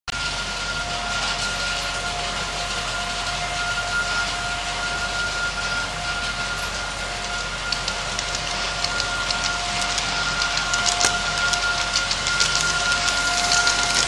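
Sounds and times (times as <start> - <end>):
thin steady whine: 0.1 - 14.0
model train wheels rolling: 0.2 - 14.0.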